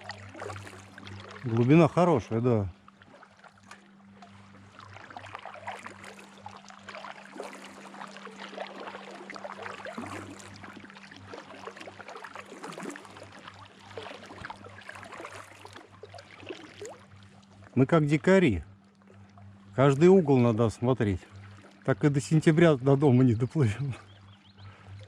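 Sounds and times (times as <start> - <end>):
paddle splashing water: 0.0 - 25.0
water against boat hull: 0.0 - 25.0.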